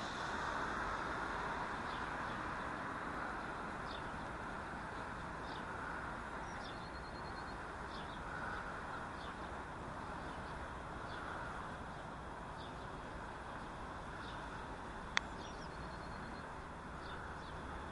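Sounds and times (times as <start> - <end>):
distant city traffic hum: 0.0 - 17.9
small birds chirping: 1.9 - 17.9.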